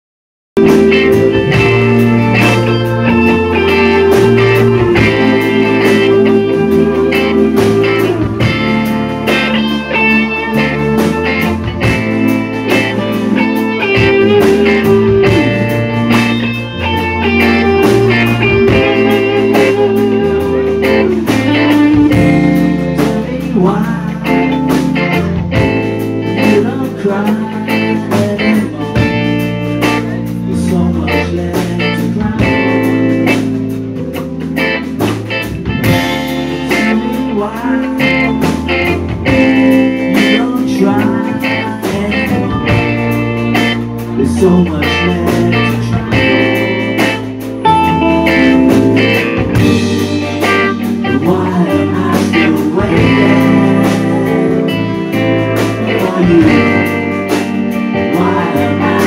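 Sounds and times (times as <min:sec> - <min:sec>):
rock band playing: 0:00.6 - 0:59.0.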